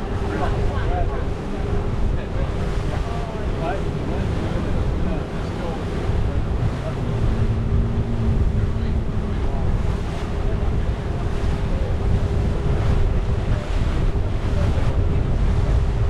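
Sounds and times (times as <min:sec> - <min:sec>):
boat engine drone: 0:00.0 - 0:16.0
rushing water: 0:00.0 - 0:16.0
wind buffeting microphone: 0:00.0 - 0:16.0.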